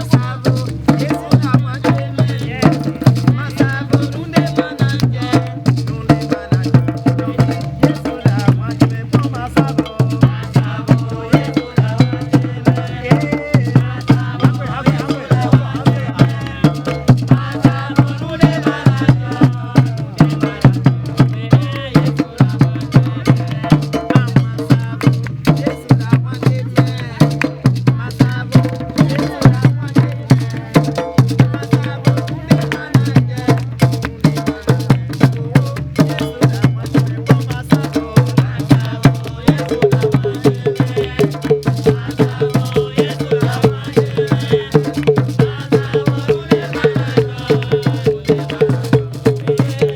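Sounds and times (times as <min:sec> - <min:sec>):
hand drums: 0:00.0 - 0:49.9
voices singing: 0:00.0 - 0:49.9.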